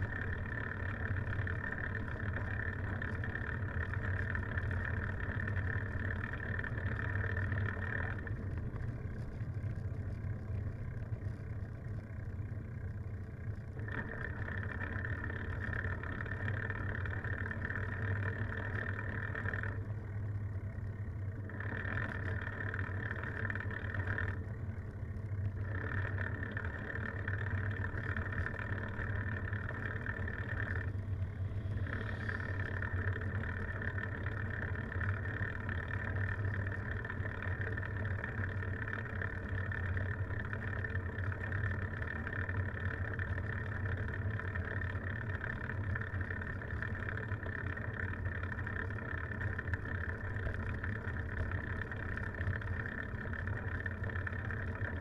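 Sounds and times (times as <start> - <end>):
bicycle tyre noise on asphalt: 0.0 - 55.0.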